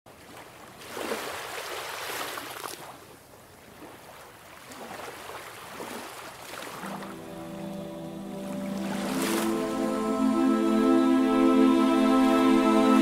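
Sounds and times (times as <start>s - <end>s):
waves breaking and washing: 0.1s - 13.0s.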